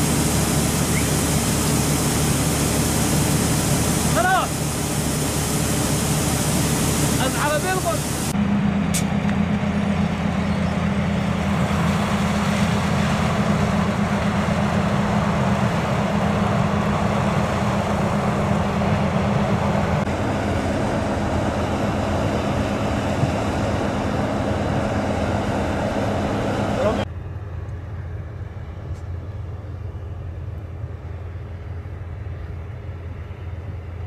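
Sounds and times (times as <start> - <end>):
combine harvester engine drone: 0.0 - 34.0.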